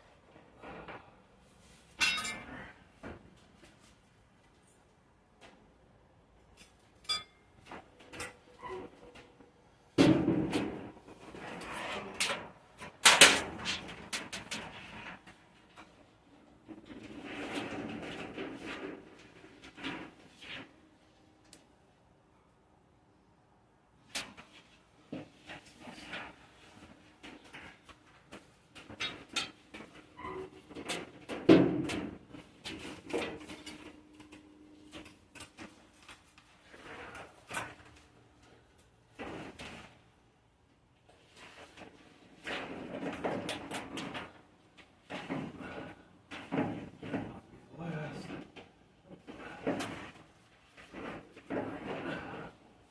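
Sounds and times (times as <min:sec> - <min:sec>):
objects clattering and knocking: 0:00.1 - 0:04.0, 0:06.4 - 0:21.1, 0:24.0 - 0:52.9.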